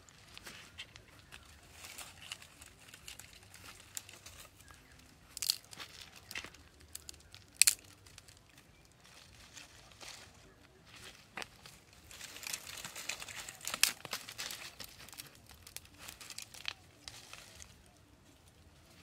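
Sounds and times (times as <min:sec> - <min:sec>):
dry leaves crackling: 0:00.0 - 0:19.0
leaves crunching underfoot: 0:00.0 - 0:19.0.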